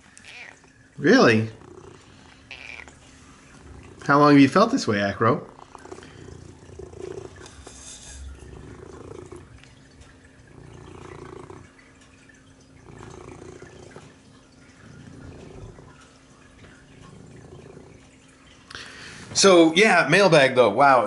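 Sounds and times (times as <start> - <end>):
cat purring: 0.0 - 18.7.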